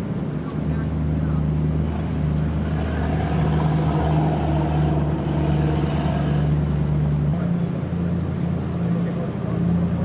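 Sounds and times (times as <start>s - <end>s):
boat engine low drone: 0.0s - 10.0s.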